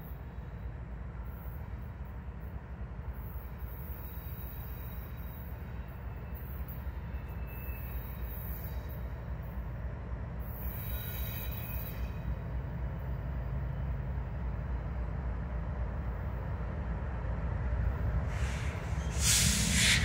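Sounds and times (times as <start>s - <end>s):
diesel locomotive engine rumble: 0.0s - 20.0s.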